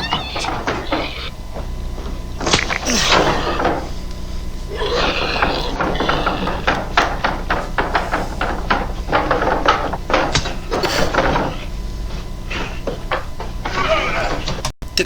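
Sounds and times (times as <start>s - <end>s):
sharp knocks and clatter: 0.0s - 14.8s.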